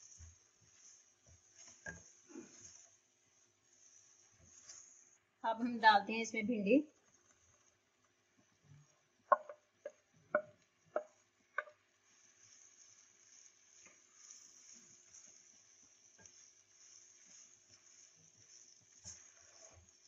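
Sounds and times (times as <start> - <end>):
soft stirring with light clicks: 0.0 - 5.3, 6.9 - 20.0
frying pan hiss: 0.0 - 20.0.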